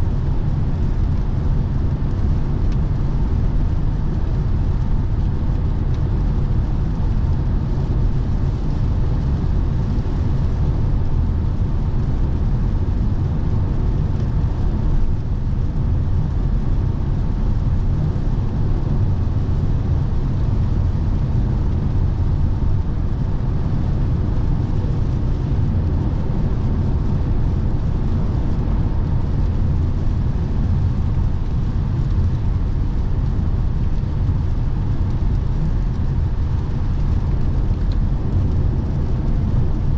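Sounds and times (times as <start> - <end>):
tyre and wind noise: 0.0 - 39.9.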